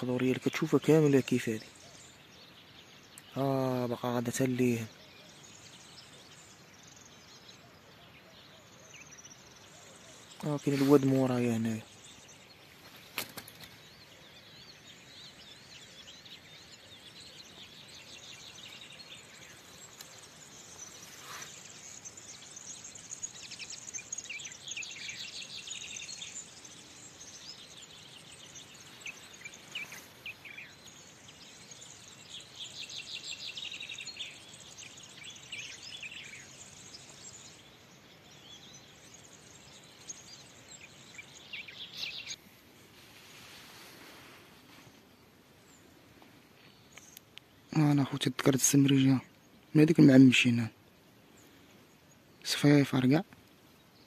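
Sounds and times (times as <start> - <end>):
faint outdoor hiss: 0.0 - 54.0
songbirds twittering: 0.0 - 54.0.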